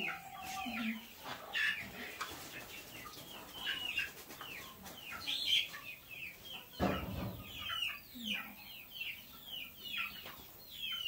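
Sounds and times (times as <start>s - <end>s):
chickens cheeping and clucking: 0.0s - 11.0s.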